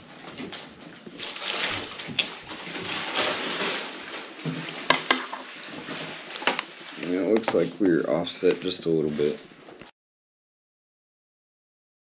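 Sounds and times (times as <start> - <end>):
rustling and scraping metal parts: 0.0 - 9.9.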